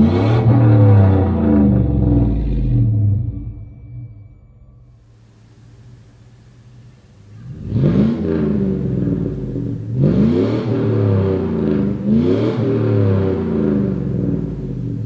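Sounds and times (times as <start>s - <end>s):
engine revving: 0.0s - 15.0s
truck engine idling: 0.0s - 15.0s.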